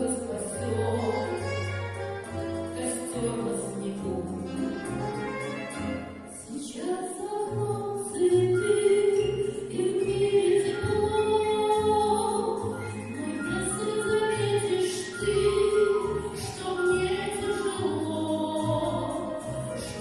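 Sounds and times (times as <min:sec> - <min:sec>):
woman singing slow song: 0:00.0 - 0:01.4, 0:02.7 - 0:04.7, 0:06.4 - 0:20.0
instrumental accompaniment with bass: 0:00.0 - 0:06.5, 0:07.5 - 0:20.0.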